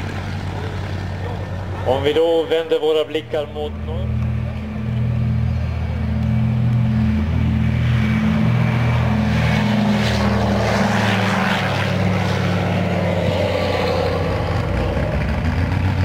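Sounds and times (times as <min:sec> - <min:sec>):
propeller aircraft engines droning: 0:00.0 - 0:16.0.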